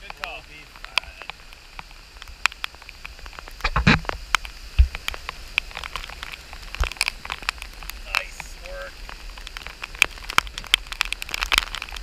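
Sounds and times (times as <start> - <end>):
rain hiss: 0.0 - 12.0
raindrops ticking on hard surface: 0.0 - 12.0.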